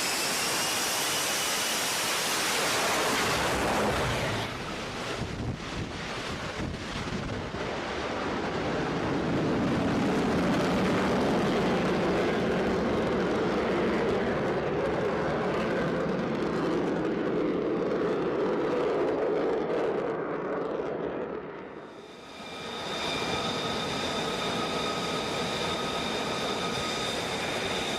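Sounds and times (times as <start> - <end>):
jet engine running: 0.0 - 27.9.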